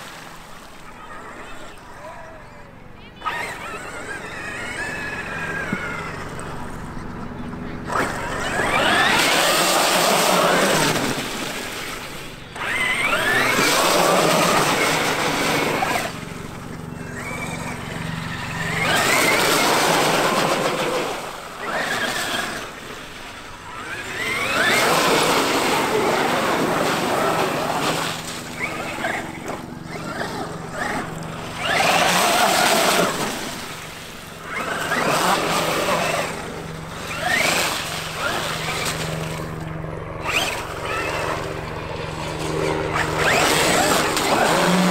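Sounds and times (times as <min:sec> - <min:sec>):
electric motor whining: 0:03.0 - 0:44.9
tyres splashing through puddles: 0:07.9 - 0:44.9.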